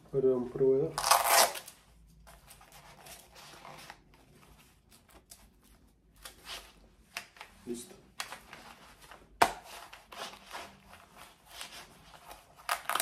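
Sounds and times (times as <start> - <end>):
cloth rustling and scraping: 1.0 - 13.0.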